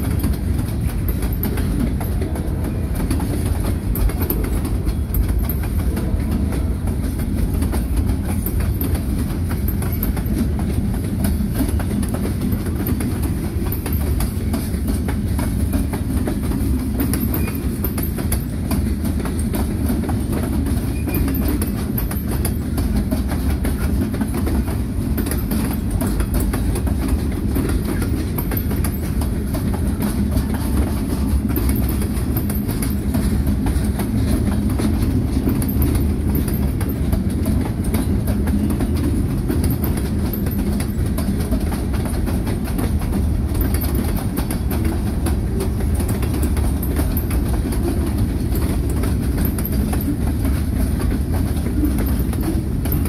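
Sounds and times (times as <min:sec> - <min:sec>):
freight train cars rolling past: 0:00.0 - 0:53.0.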